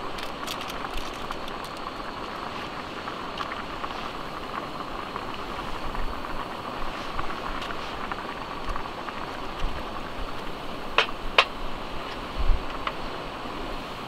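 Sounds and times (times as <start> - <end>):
water bubbling: 0.0 - 11.3
gas stove hissing: 0.0 - 14.0.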